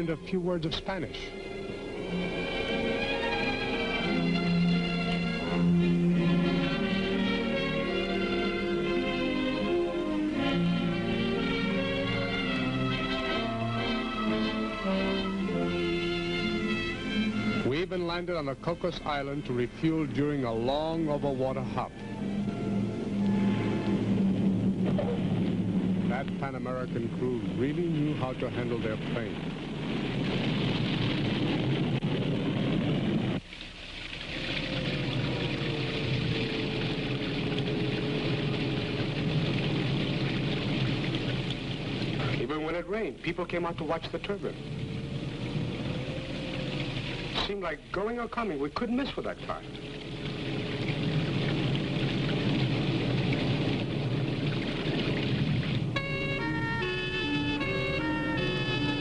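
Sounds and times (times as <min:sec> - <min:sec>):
music with sustained notes: 0:00.0 - 0:31.4, 0:34.4 - 0:47.4, 0:49.6 - 0:59.0
propeller airliner engines rumbling: 0:00.0 - 0:48.0, 0:49.1 - 0:59.0
faint steady hum: 0:00.0 - 0:59.0
rain hissing: 0:00.0 - 0:59.0.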